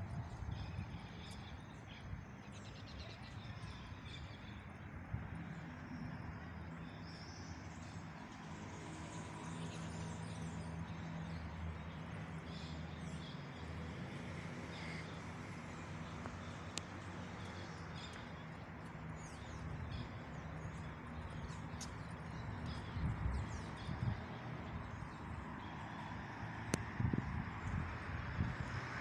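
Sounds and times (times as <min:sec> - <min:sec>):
distant traffic hum: 0:00.0 - 0:29.0.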